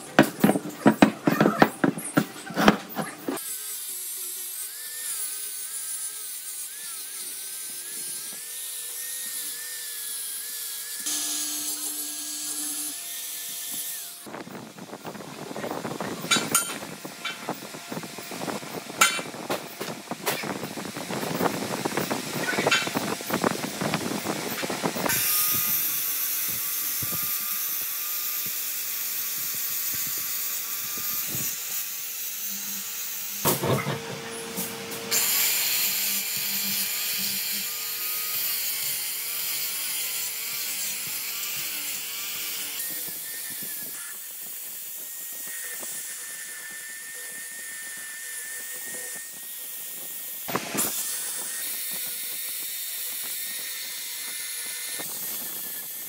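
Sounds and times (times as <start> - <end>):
high-speed power tool running: 0.0 - 56.0.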